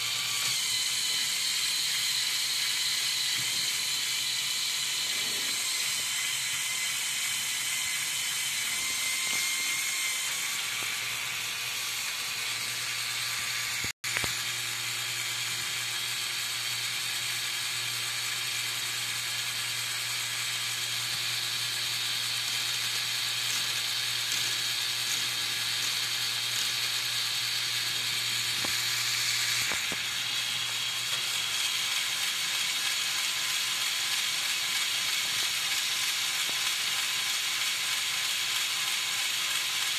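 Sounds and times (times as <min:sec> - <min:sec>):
ratcheting rattle: 0:00.0 - 0:14.5, 0:15.2 - 0:39.9
toy electric motor and gears whirring: 0:00.0 - 0:39.9.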